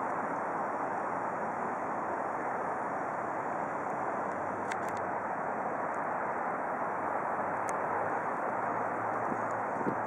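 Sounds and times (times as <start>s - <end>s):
distant traffic hum: 0.0s - 10.0s
flowing river water: 0.0s - 10.0s.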